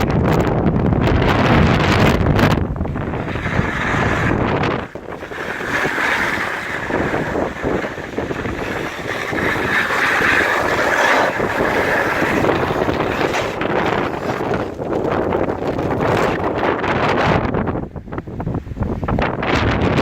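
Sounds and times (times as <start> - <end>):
gusting wind on microphone: 0.0 - 20.0.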